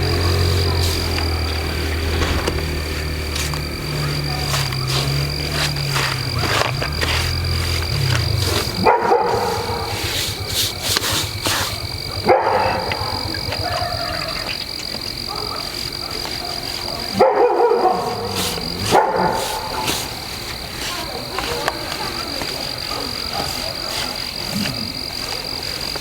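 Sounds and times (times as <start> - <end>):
dog barking: 0.0 - 26.0.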